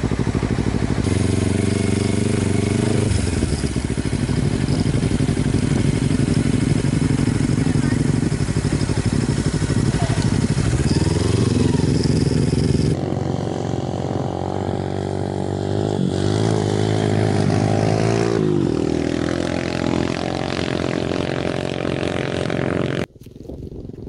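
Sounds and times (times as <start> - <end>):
motorcycle engine revving: 0.0 - 23.1.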